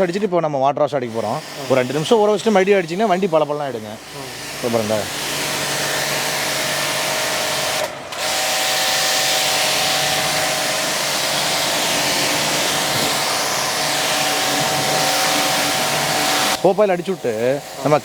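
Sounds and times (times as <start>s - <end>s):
pressure washer motor whine: 1.1s - 18.0s
pressure washer spray hiss: 1.1s - 18.0s.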